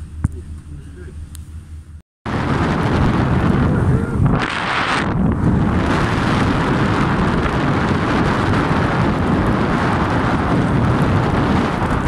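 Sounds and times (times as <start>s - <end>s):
wind buffeting microphone: 2.3s - 12.0s.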